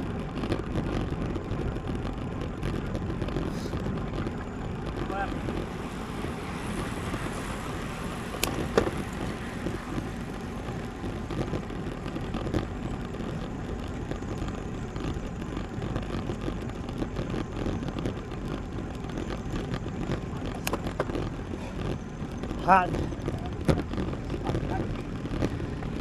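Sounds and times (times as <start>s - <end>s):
bike tyre road rumble: 0.0s - 26.0s
wind on microphone: 0.0s - 26.0s.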